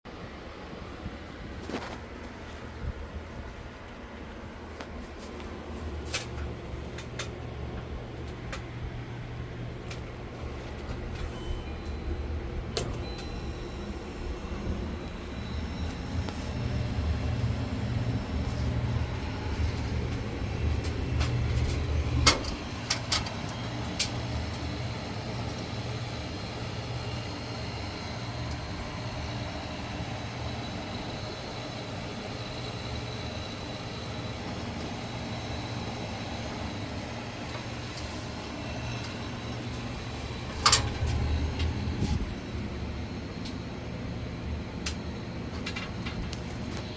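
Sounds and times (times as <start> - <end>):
refrigerator hum with high whine: 0.1 - 46.9.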